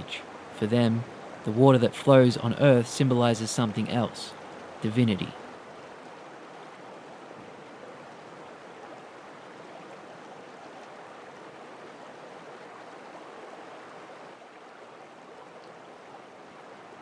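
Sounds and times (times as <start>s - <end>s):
water rushing in channel: 0.0s - 17.0s.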